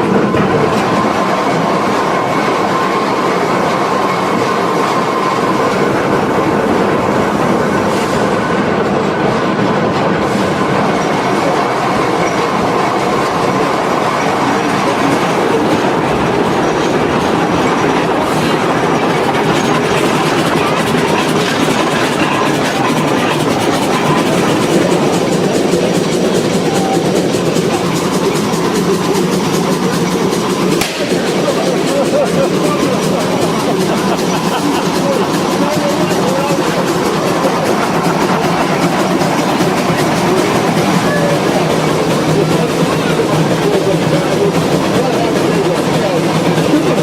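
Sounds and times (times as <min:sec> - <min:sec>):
train wheels on rails: 0:00.0 - 0:47.0.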